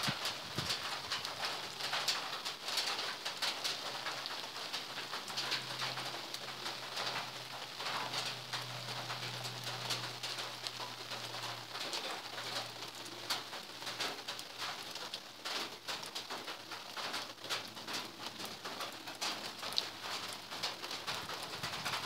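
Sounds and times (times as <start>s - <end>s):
outdoor hiss: 0.0s - 22.0s.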